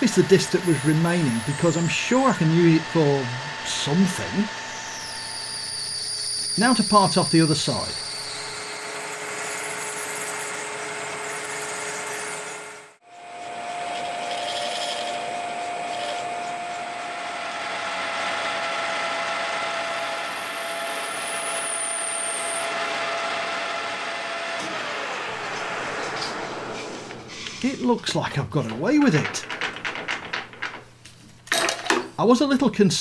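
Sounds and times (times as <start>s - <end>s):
lathe running with a whine: 0.0s - 28.0s.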